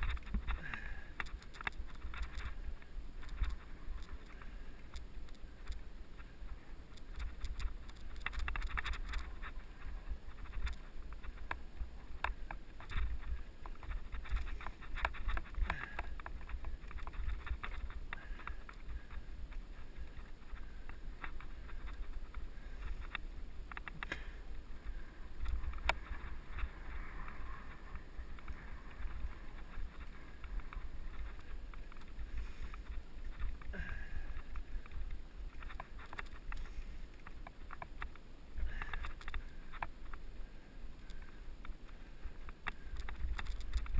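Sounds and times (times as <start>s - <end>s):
bike clicks and rattles: 0.0s - 40.3s, 40.9s - 43.9s.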